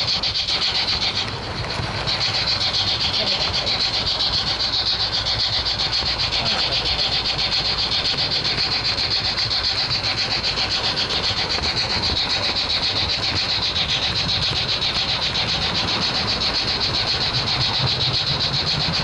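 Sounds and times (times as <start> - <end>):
model train high whine: 0.0 - 19.0
wheels clattering on rails: 0.0 - 19.0.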